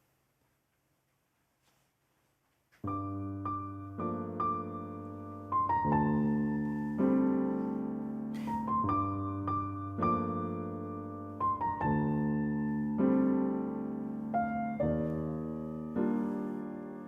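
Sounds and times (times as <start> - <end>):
gentle piano music: 2.8 - 17.0.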